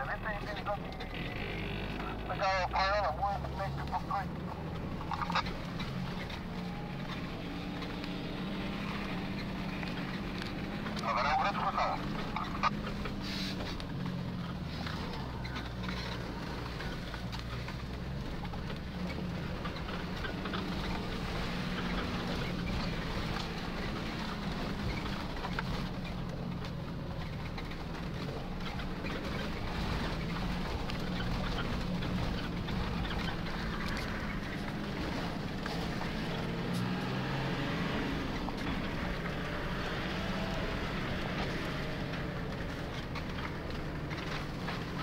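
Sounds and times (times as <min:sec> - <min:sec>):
vehicle engine driving slowly: 0:00.0 - 0:45.0.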